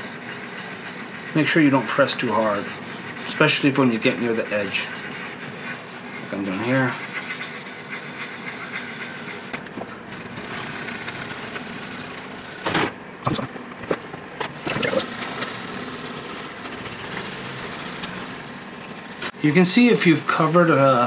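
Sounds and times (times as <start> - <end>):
abrasive pad rubbing on clear coat: 0.0 - 12.6, 14.7 - 21.0.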